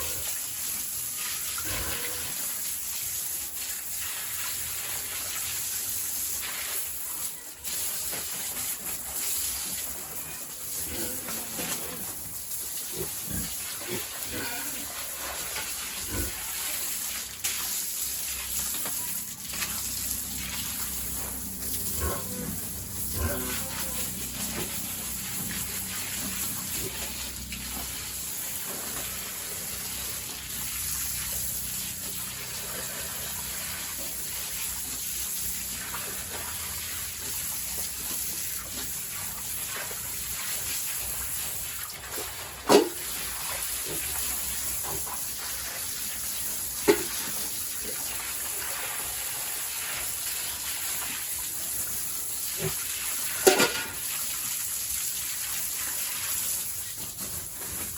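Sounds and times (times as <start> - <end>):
water spraying from a hose: 0.0 - 57.9.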